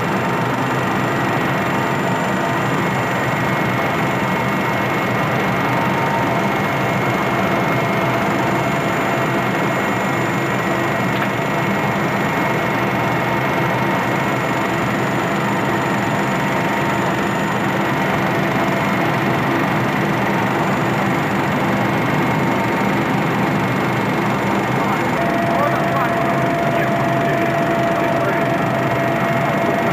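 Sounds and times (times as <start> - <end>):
constant whining tones: 0.0 - 29.9
helicopter engine and rotor drone: 0.0 - 29.9.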